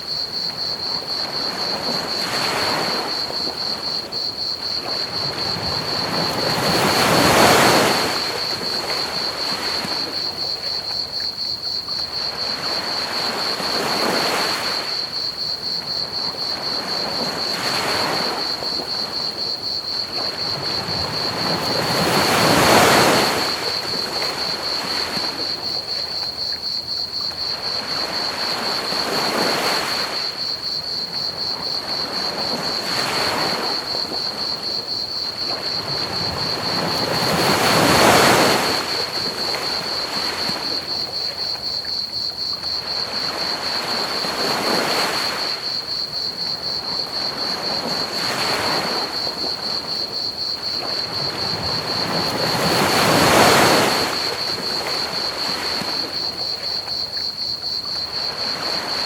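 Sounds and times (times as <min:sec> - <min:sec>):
ocean waves breaking on beach: 0:00.0 - 0:11.5, 0:12.2 - 0:26.6, 0:27.4 - 0:42.1, 0:42.7 - 0:59.0
cricket chirping: 0:00.0 - 0:59.0.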